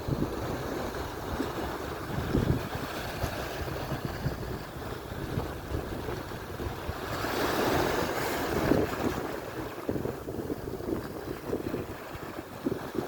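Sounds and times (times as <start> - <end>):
surf washing onto shore: 0.0 - 13.0
wind buffeting microphone: 0.0 - 13.0.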